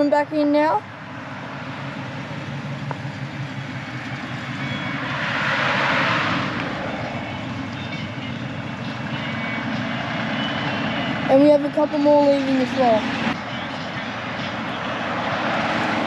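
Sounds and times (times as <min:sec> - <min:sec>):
car driving past: 0:00.8 - 0:11.5, 0:12.6 - 0:16.0.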